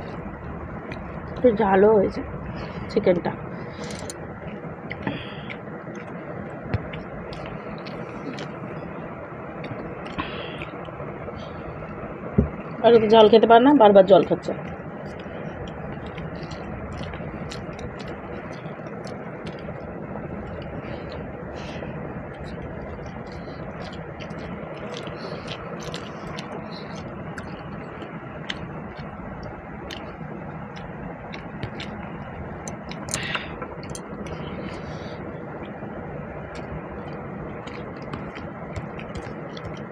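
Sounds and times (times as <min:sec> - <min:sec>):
steady background hum: 0:00.0 - 0:39.9
steady background rush: 0:00.0 - 0:39.9
eating clicks and smacks: 0:03.8 - 0:08.6, 0:09.6 - 0:11.5, 0:14.6 - 0:39.9.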